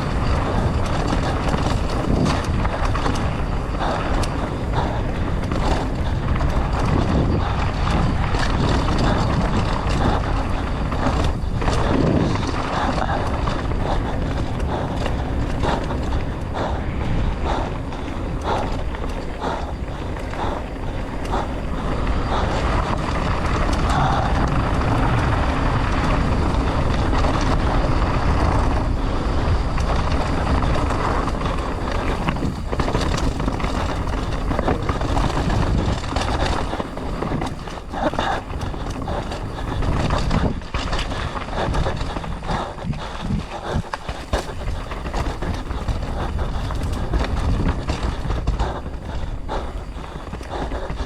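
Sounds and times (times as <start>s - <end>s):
bike knocks and rattles: 0.0s - 28.9s, 29.8s - 51.0s
bike tyres on dirt: 0.0s - 51.0s
wind rushing over microphone: 0.0s - 51.0s.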